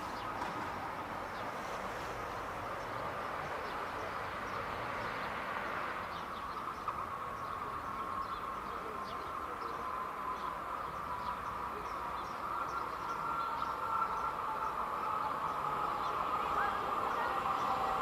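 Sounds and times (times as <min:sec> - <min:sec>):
diesel railcar humming: 0:00.0 - 0:18.0.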